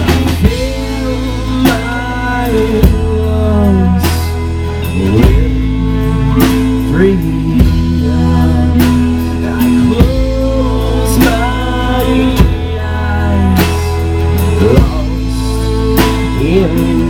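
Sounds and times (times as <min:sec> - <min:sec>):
drum kit beat: 0:00.0 - 0:17.0
guitars: 0:00.0 - 0:17.0
man singing: 0:00.0 - 0:17.0.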